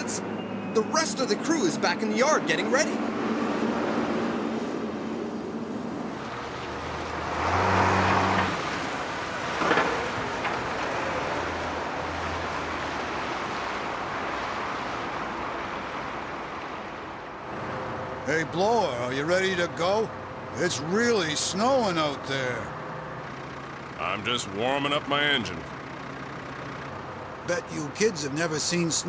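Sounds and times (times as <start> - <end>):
heavy vehicle engines running: 0.0 - 29.0.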